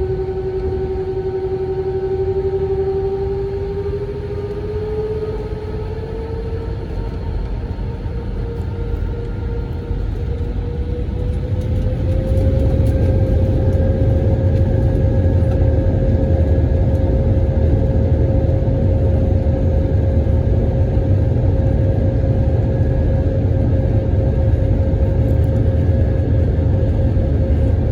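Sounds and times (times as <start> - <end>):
jet engine roar in cabin: 0.0 - 27.9.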